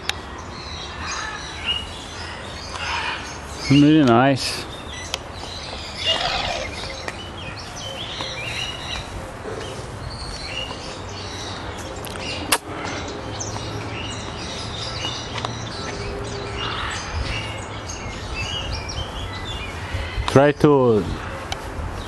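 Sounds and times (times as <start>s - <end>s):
birds chirping: 0.0s - 22.0s
outdoor background noise: 0.0s - 22.0s.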